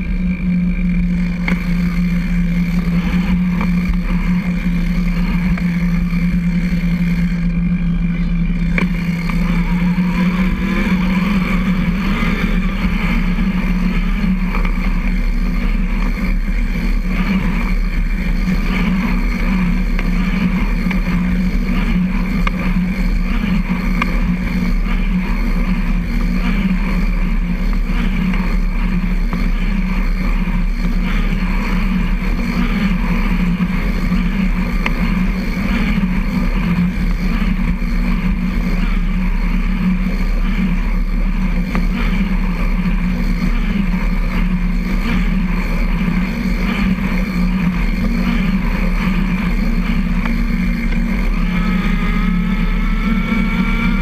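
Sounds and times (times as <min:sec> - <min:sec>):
trike tyres and chain droning: 0:00.0 - 0:54.0.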